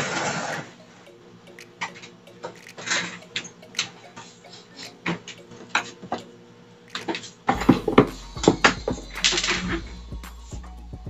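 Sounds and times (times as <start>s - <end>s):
irregular ticking and clicking: 0.0s - 10.4s.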